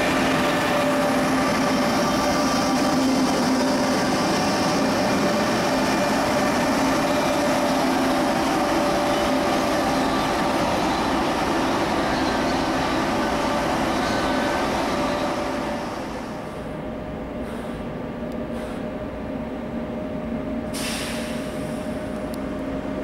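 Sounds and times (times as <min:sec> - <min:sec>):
train running noise: 0:00.0 - 0:23.0
train traction hum: 0:00.0 - 0:23.0.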